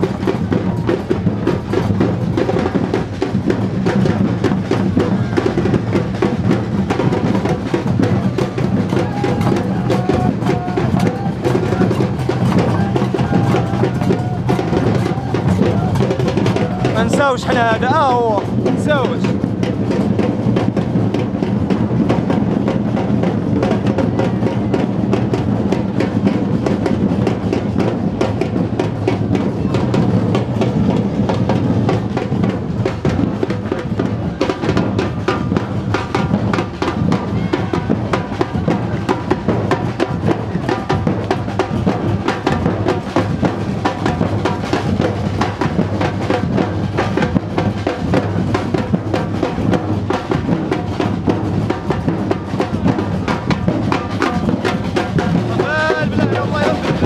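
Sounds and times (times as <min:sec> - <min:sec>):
bass drums: 0:00.0 - 0:57.0
snare drums: 0:00.0 - 0:57.0.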